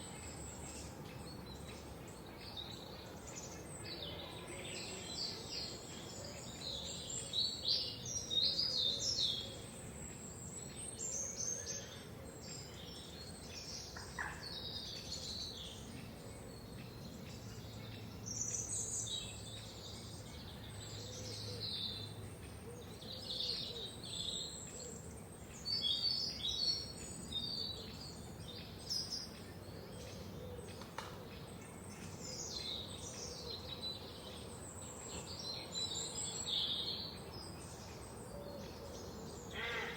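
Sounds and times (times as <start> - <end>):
faint background hiss: 0.0 - 39.9
songbirds singing and chirping: 0.0 - 39.9.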